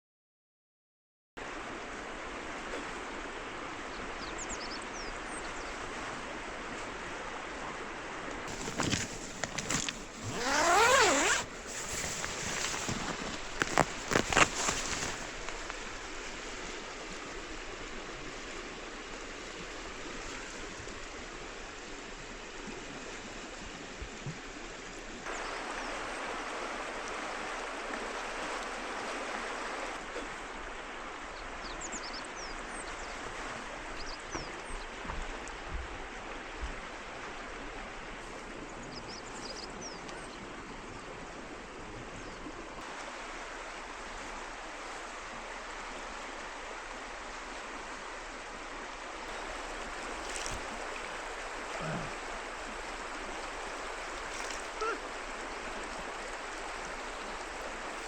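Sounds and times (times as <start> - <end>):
river water flowing: 1.4 - 58.0.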